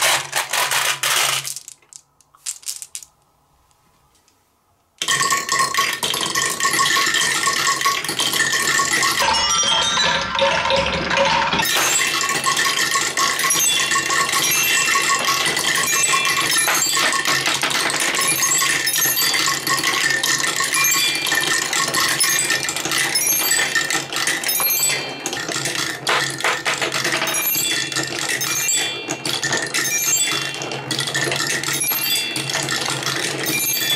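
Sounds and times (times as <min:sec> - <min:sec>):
marbles clattering through marble run: 0:00.0 - 0:03.2, 0:05.0 - 0:33.9.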